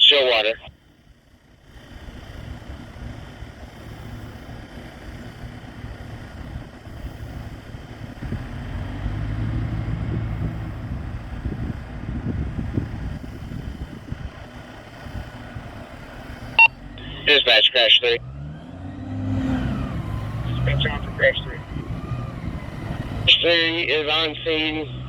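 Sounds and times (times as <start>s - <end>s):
fire truck engine rumbling: 0.0s - 25.0s.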